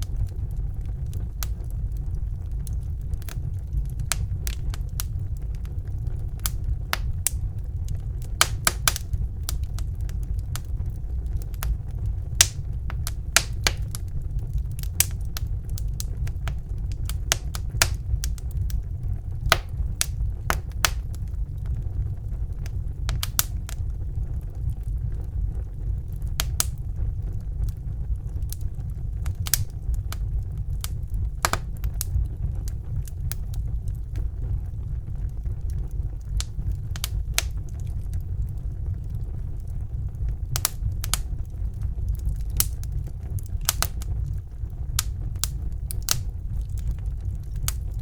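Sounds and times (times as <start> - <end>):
fire crackling and popping: 0.0 - 48.0
low rumble of flames: 0.0 - 48.0.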